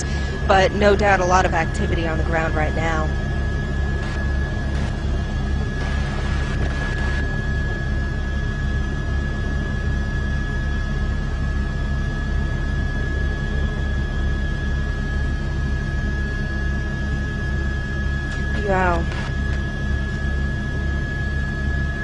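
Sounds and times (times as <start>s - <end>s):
helicopter engine and rotor: 0.0s - 22.0s
thin high whine: 0.0s - 22.0s.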